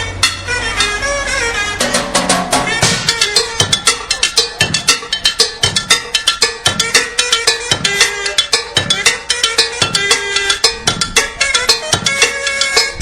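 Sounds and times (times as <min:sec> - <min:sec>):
dance music: 0:00.2 - 0:13.0
cowbell strikes: 0:01.8 - 0:13.0.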